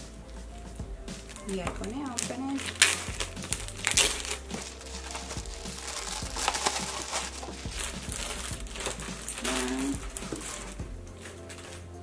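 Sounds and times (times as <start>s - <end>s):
plastic bag crinkling: 1.3s - 12.0s.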